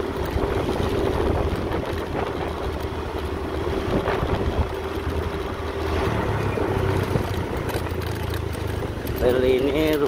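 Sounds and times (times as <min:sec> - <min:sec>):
motorcycle engine rumble: 0:00.0 - 0:10.0.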